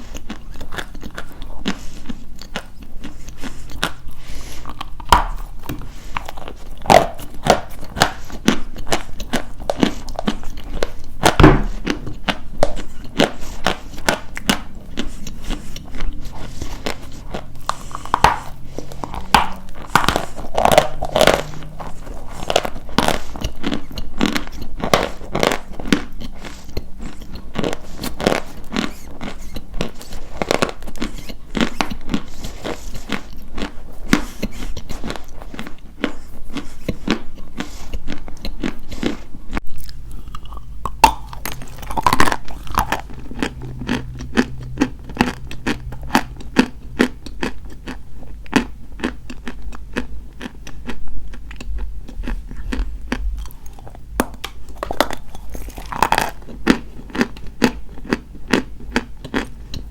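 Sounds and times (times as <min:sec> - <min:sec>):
chalk being chewed: 0:00.0 - 0:59.9.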